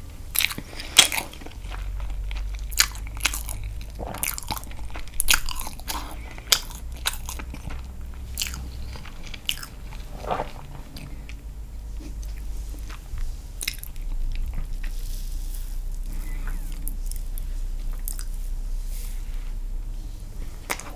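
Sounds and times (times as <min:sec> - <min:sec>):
wet chewing and mouth clicks: 0:00.3 - 0:15.0, 0:15.8 - 0:18.5, 0:20.6 - 0:20.9.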